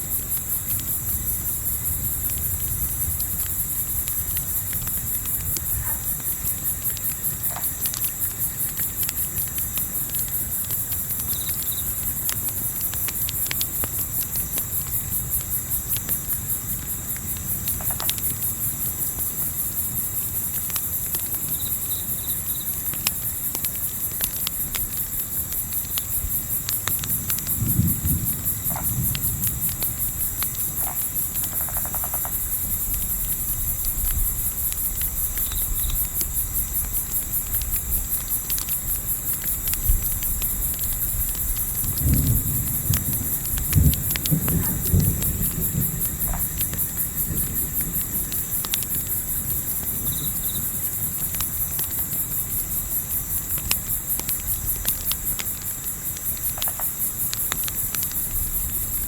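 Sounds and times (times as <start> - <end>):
campfire crackling: 0.0 - 59.0
crickets chirring: 0.0 - 59.0.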